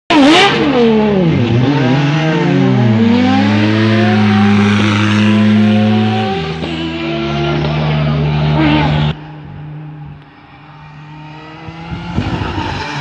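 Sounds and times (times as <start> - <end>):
rally car pulling away: 0.1 - 13.0.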